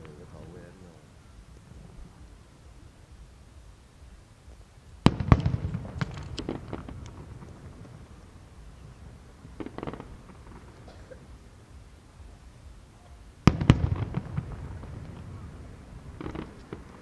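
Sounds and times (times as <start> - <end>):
fireworks bangs: 0.0 - 17.0
fireworks crackling pops: 0.0 - 17.0.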